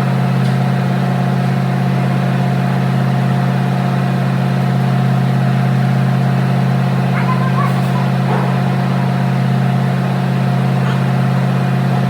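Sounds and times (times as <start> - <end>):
engine idling with faint whine: 0.0 - 12.0.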